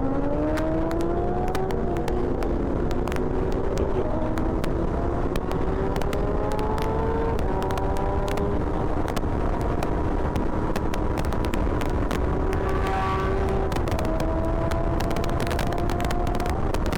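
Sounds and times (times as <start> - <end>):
motorcycle engine accelerating: 0.0 - 16.9
wind rumbling on microphone: 0.0 - 16.9.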